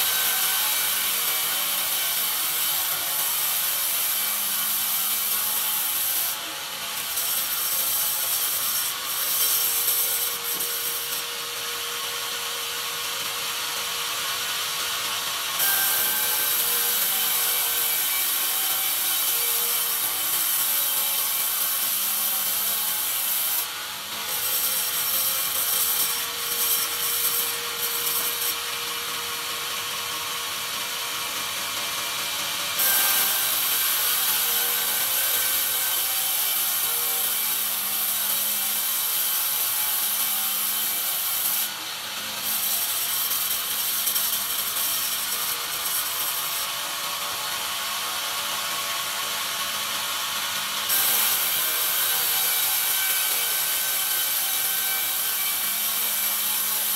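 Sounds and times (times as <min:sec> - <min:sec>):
bandsaw cutting wood: 0:00.0 - 0:56.9.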